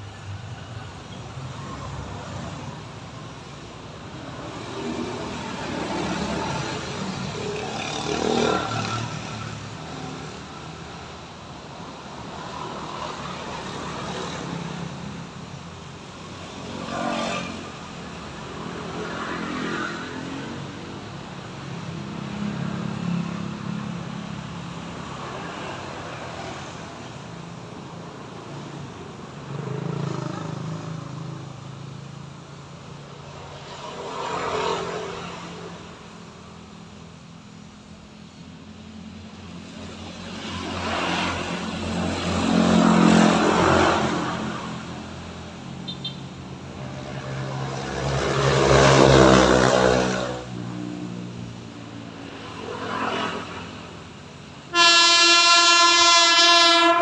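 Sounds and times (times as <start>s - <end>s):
vehicles passing by: 0.0s - 57.0s.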